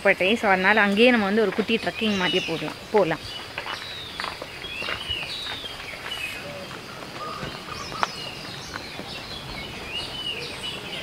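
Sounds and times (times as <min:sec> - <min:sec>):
birds chirping: 0:00.0 - 0:11.0
steady outdoor hiss: 0:00.0 - 0:11.0.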